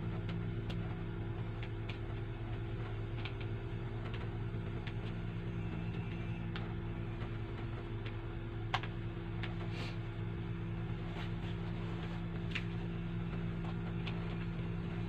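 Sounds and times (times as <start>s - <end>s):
appliance humming: 0.0s - 15.0s.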